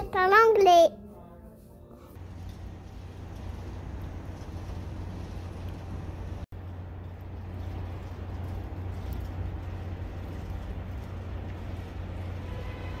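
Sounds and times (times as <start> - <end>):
distant traffic: 2.2 - 13.0.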